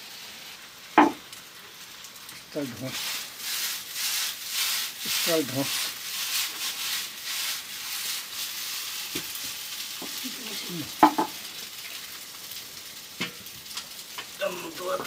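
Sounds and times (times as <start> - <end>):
noodles sizzling in a wok: 0.0 - 15.0.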